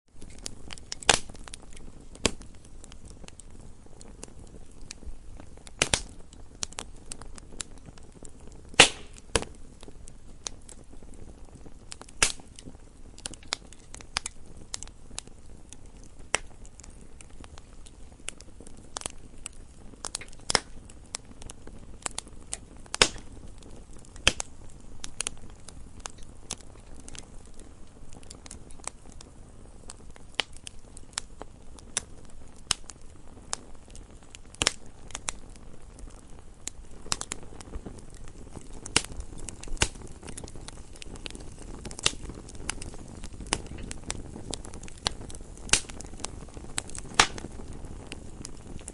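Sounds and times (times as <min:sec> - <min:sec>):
low steady hiss: 0:00.1 - 0:48.9
wood fire popping and snapping: 0:00.1 - 0:48.9.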